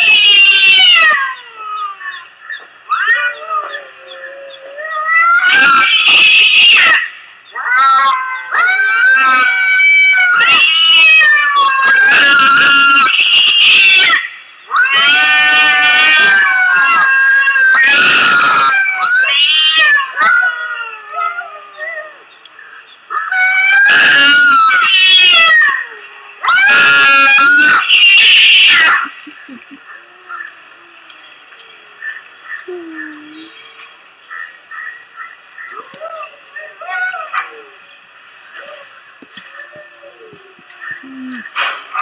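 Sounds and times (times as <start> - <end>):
cats yowling and screeching: 0.0 - 22.3, 23.1 - 33.9, 35.7 - 37.9, 38.5 - 42.0.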